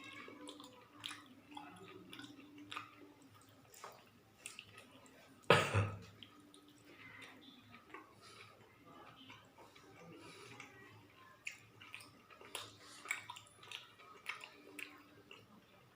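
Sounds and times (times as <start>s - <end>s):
person chewing wetly: 0.0s - 15.9s.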